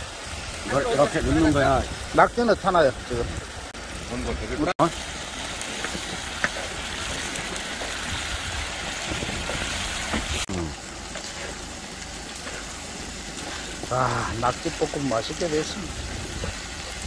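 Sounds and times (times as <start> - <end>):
food sizzling on a griddle pan: 0.0 - 17.0.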